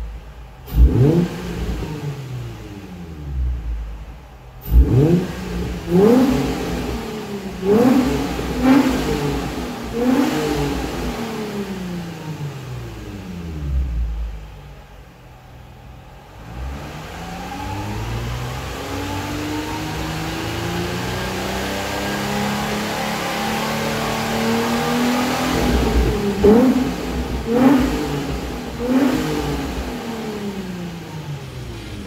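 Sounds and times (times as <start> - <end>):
car exhaust revving and idling: 0.0 - 32.0.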